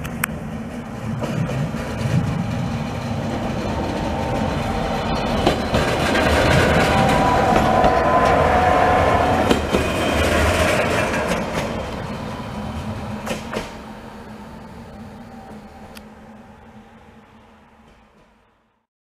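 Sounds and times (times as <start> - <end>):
electric railcar whine: 0.0 - 18.9.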